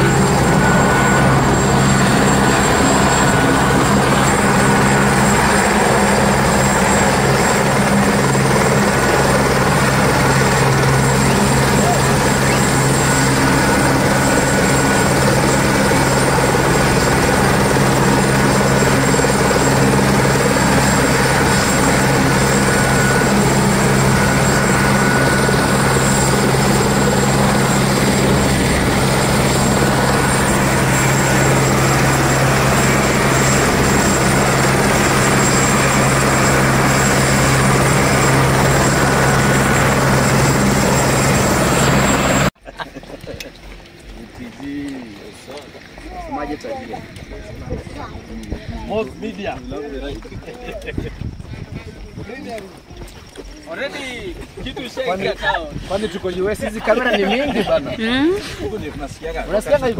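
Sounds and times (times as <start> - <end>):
helicopter rotor hum: 0.0 - 59.9
helicopter turbine whine: 0.0 - 59.9.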